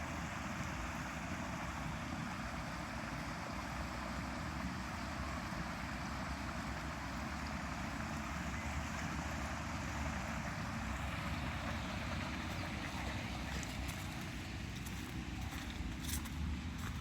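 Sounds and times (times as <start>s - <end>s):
water running in a stream: 0.0s - 17.0s.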